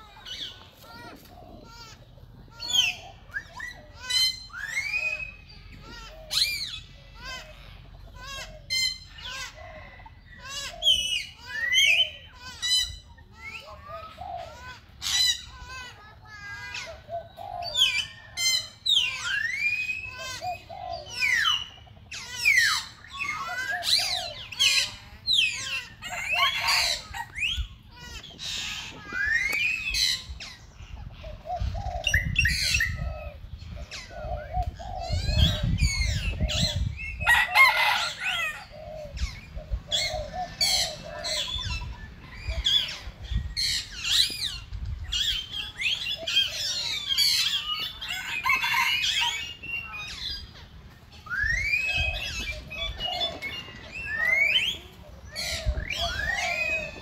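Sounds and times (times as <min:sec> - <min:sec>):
birds chirping and whistling: 0:00.0 - 0:57.0.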